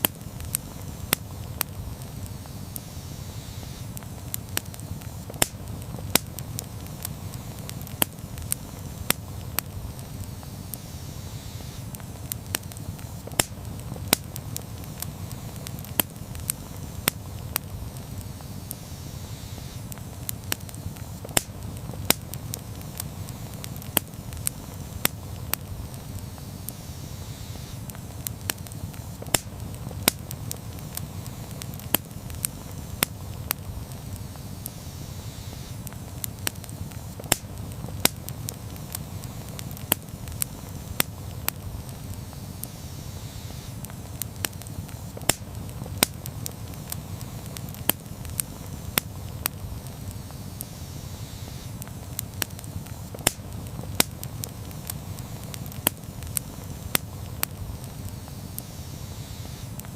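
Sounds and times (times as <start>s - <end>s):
burning wood crackling and popping: 0.0s - 59.9s
campfire flames rumbling: 0.0s - 59.9s.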